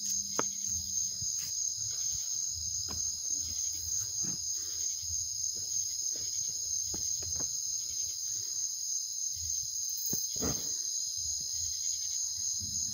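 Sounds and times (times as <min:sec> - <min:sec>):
crickets trilling: 0:00.0 - 0:12.9.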